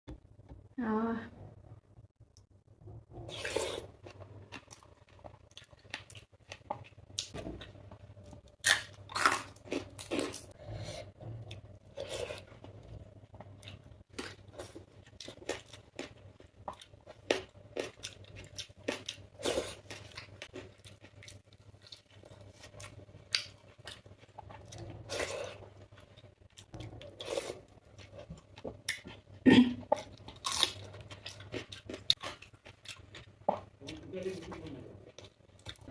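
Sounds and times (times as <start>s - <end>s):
person chewing crisp food: 3.3s - 35.9s.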